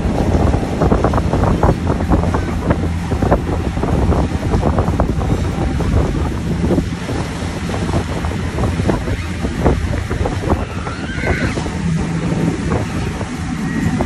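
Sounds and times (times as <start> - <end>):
boat engine: 0.0 - 14.0
water rushing from wake: 0.0 - 14.0
wind buffeting microphone: 0.0 - 14.0.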